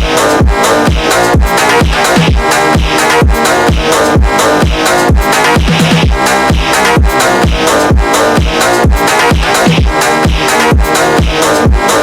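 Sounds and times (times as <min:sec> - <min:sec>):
electronic beat with booming kick: 0:00.0 - 0:12.0
layered synth tones: 0:00.0 - 0:12.0.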